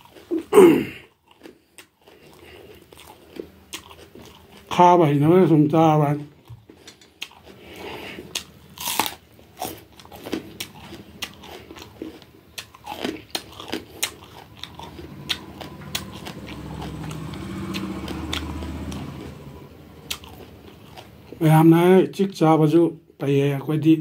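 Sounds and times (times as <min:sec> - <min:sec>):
crisp crunching and chewing: 0:00.0 - 0:05.3, 0:06.2 - 0:21.5
low steady hum: 0:02.1 - 0:24.0.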